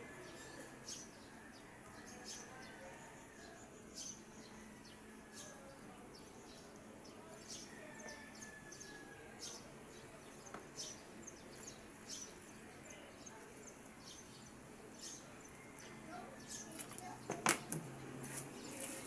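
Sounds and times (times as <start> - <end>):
small birds chirping faintly: 0.0 - 19.0.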